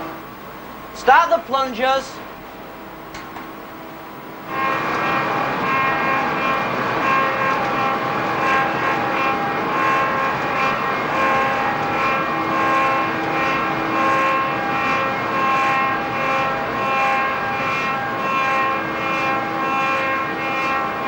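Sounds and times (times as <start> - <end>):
machinery whining: 0.0 - 21.0.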